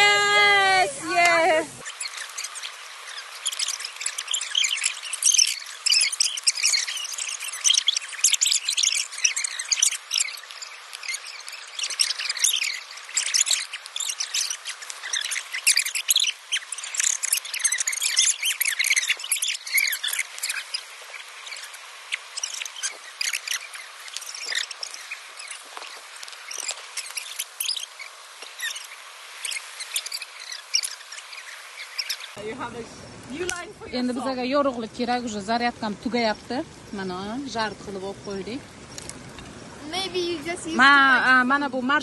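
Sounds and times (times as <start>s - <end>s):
birds chirping: 0.0s - 42.0s
insects chirping: 0.0s - 42.0s.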